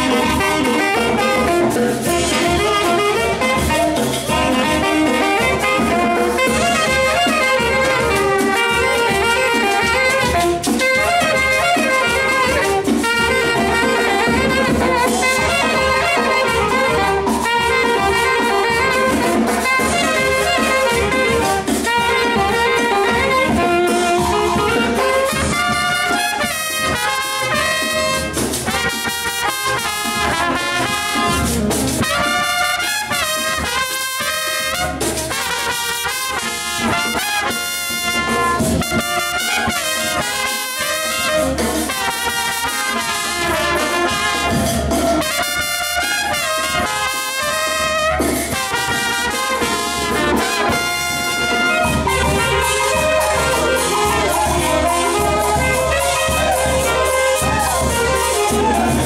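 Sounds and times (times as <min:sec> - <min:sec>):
saxophones playing: 0:00.0 - 0:59.0
trumpets playing: 0:00.0 - 0:59.0.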